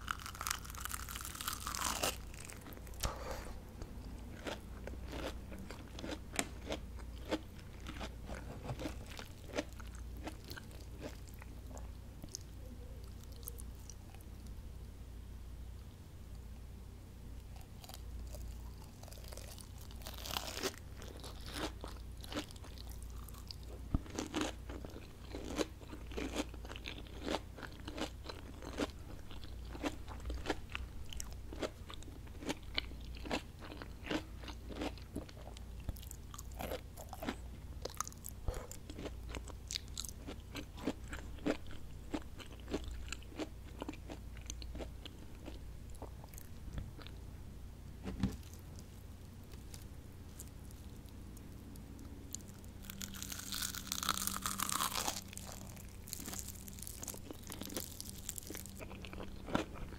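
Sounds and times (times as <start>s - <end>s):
crunchy chewing: 0.0s - 14.5s, 17.4s - 47.2s, 48.3s - 59.9s.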